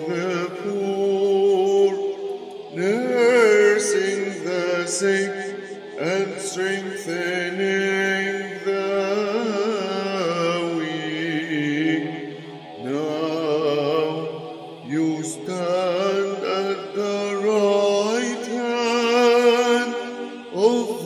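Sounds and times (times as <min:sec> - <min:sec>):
person chanting: 0:00.0 - 0:21.0.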